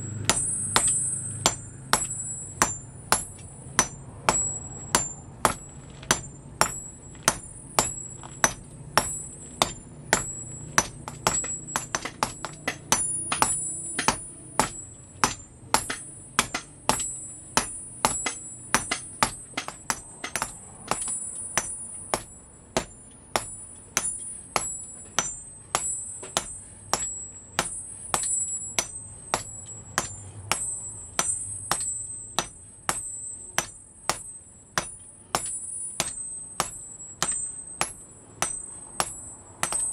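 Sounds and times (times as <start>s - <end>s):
hammer striking hot steel on anvil: 0.0s - 39.9s.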